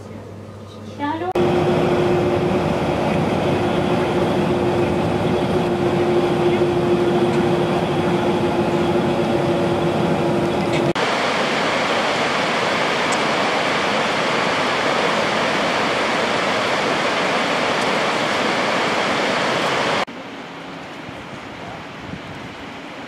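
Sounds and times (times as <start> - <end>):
bus engine hum: 0.0 - 20.0
waterfall rushing: 1.4 - 20.6
road noise: 1.4 - 23.0.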